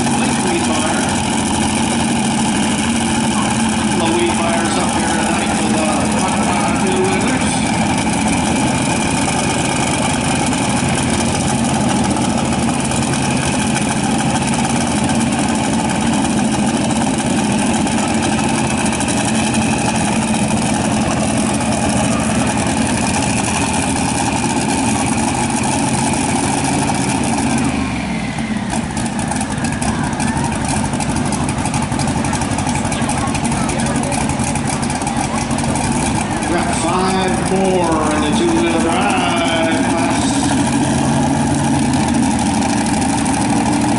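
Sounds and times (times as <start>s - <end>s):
turbo engine idling: 0.0s - 43.9s.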